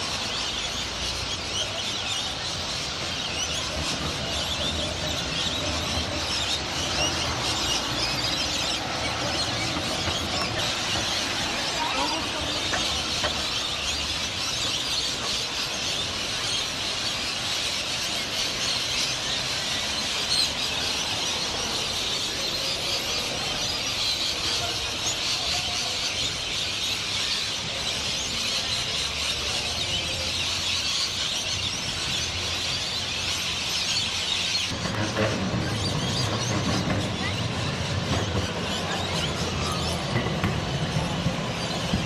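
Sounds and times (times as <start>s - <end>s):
flock of birds chattering: 0.0s - 42.0s.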